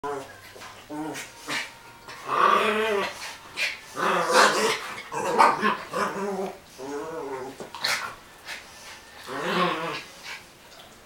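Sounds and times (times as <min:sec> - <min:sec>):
dogs growling and barking: 0:00.0 - 0:10.5.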